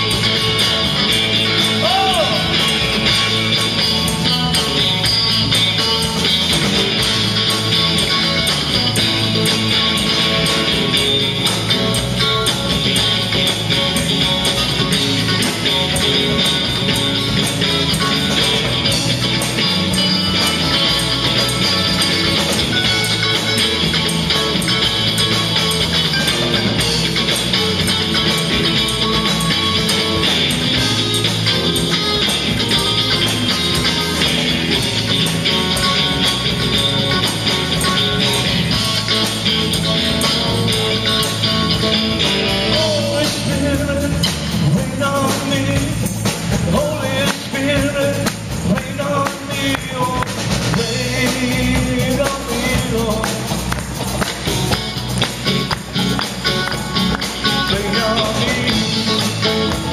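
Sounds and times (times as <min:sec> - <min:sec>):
bass line: 0:00.0 - 0:59.9
drum kit beat on cymbals: 0:00.0 - 0:59.9
electric guitar playing: 0:00.0 - 0:59.9
live rock band music: 0:00.0 - 0:59.9.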